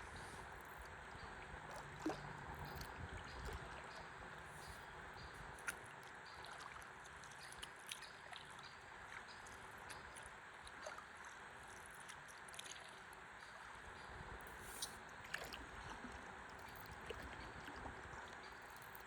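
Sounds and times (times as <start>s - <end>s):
water lapping and trickling: 0.0s - 19.0s
water drips and splashes: 0.2s - 19.0s.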